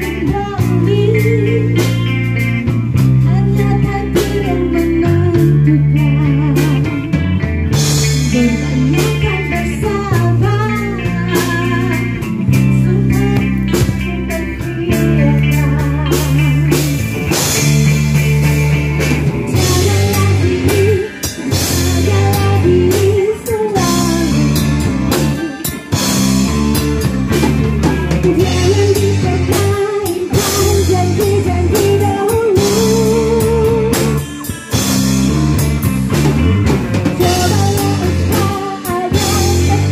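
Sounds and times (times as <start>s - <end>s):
woman singing: 0.0s - 7.2s, 8.0s - 17.4s, 19.5s - 25.8s, 27.8s - 34.4s, 37.2s - 39.9s
live rock band playing: 0.0s - 39.9s.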